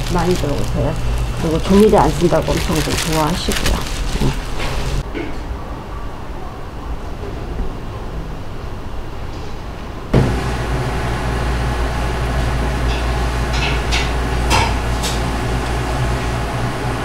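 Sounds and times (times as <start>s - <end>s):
low hum of cooling machinery: 0.0s - 17.0s.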